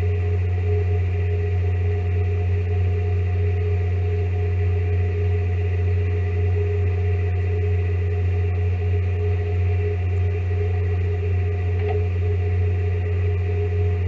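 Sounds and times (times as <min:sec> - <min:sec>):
faint steady tones: 0:00.0 - 0:14.0
ship machinery low drone: 0:00.0 - 0:14.0.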